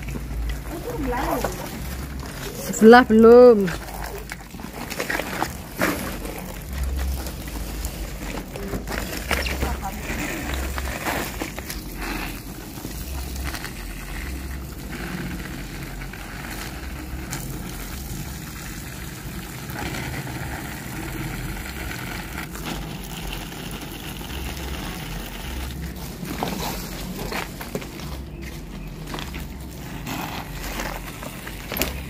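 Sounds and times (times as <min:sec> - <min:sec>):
garden hose spraying water: 0:00.0 - 0:32.0
low rumbling: 0:00.0 - 0:32.0.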